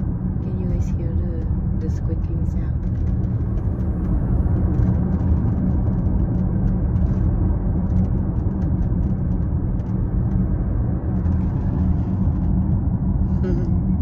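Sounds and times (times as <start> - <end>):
road and tyre rumble in car: 0.0 - 14.0.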